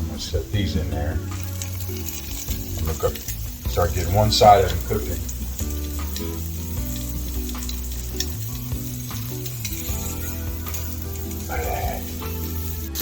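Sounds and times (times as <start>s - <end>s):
sausages sizzling in a pan: 0.0s - 13.0s.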